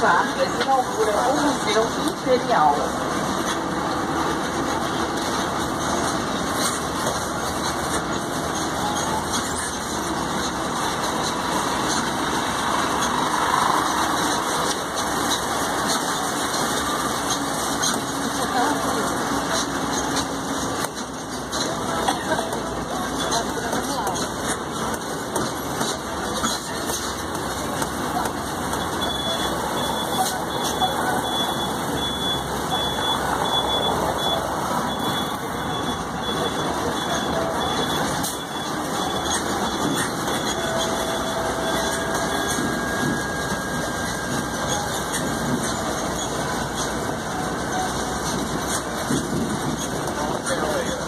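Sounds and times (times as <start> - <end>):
engine running steadily: 0.0 - 51.0
rolling wheels road noise: 0.0 - 51.0.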